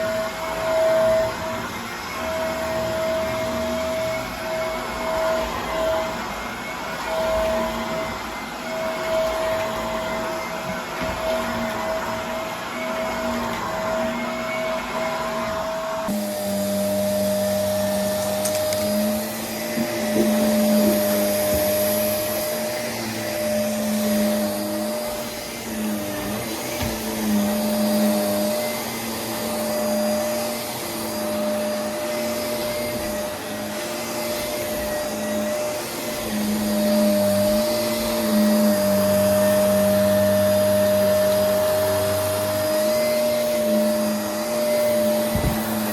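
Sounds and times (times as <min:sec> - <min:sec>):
vacuum cleaner motor running: 0:00.0 - 0:45.9.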